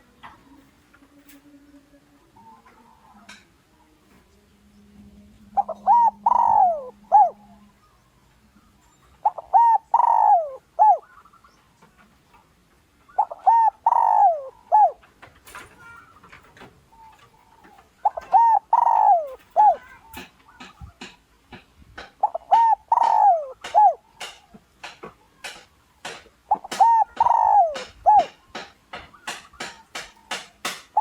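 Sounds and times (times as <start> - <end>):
dove cooing: 0.0 - 4.3, 5.4 - 12.4, 13.0 - 31.0.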